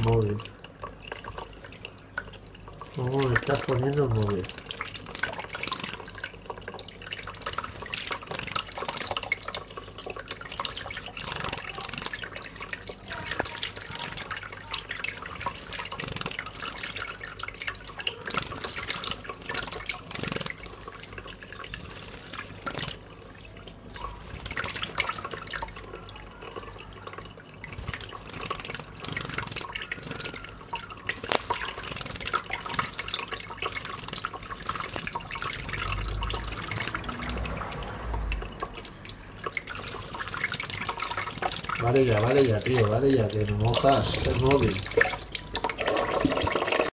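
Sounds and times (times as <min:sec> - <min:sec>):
tap water running: 0:00.0 - 0:46.9
water splashing and dripping: 0:00.0 - 0:46.9
bird fluttering in water: 0:02.8 - 0:23.1, 0:24.0 - 0:25.9, 0:26.5 - 0:46.9.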